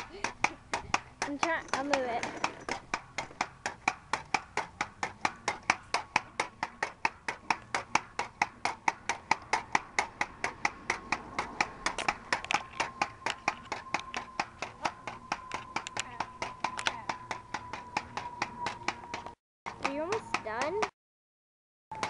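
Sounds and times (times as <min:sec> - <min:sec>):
pogo stick clacking on asphalt: 0:00.0 - 0:21.0.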